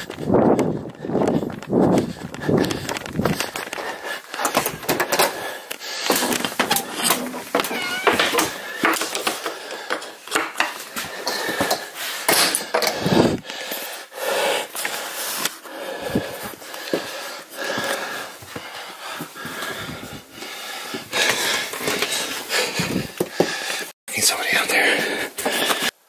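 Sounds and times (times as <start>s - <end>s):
person breathing hard: 0.0s - 7.0s, 8.1s - 26.0s.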